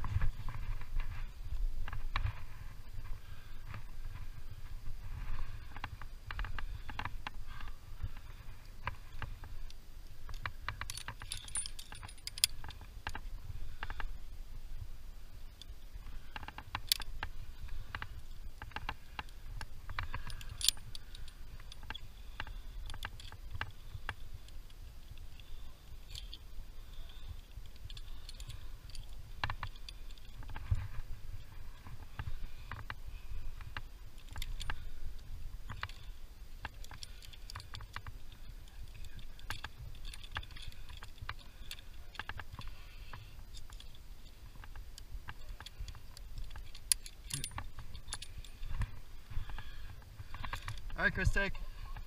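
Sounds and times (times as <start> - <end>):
metal climbing hardware clinking: 0.0 - 14.2, 15.5 - 52.0.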